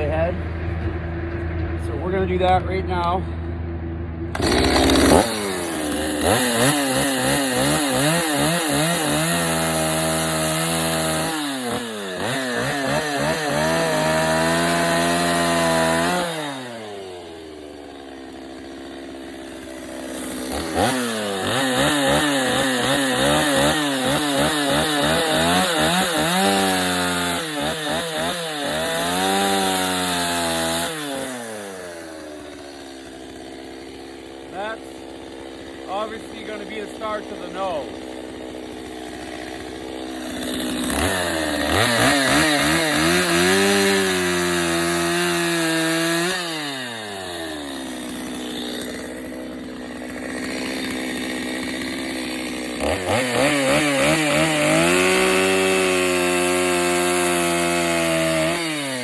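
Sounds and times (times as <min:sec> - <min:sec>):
chainsaw cutting wood: 0:04.3 - 0:59.0.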